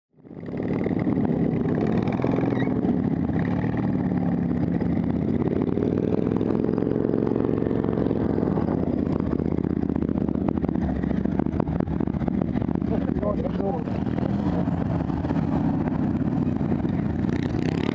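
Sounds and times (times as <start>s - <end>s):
lawn mower engines running: 0.3s - 17.9s.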